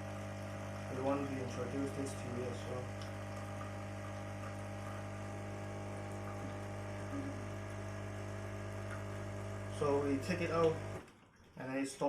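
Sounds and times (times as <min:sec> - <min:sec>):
coffee machine pump humming: 0:00.0 - 0:11.1.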